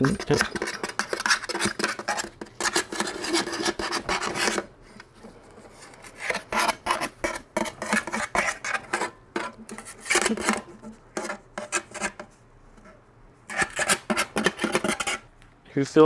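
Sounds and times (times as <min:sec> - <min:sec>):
metal tool scraping inside muffler: 0:00.0 - 0:05.1, 0:05.8 - 0:12.2, 0:13.4 - 0:15.3.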